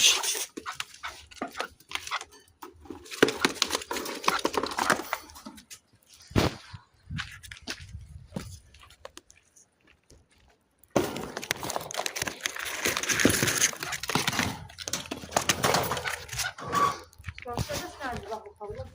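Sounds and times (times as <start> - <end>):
birds scuffling and wings flapping: 0.0 - 18.9.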